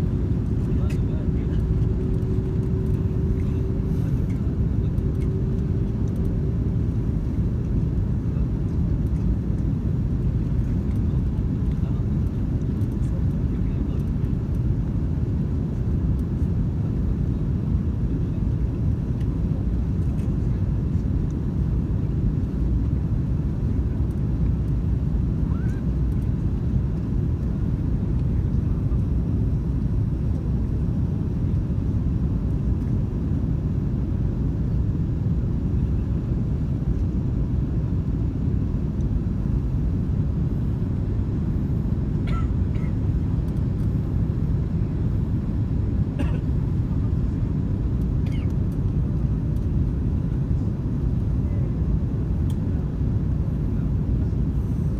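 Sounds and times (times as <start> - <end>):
airliner engines low rumble: 0.0 - 54.9.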